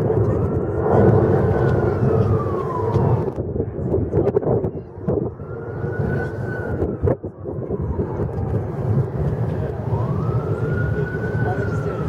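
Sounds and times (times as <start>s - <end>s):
distant fire truck siren wailing: 0.0s - 12.0s
low rumble: 0.0s - 12.0s.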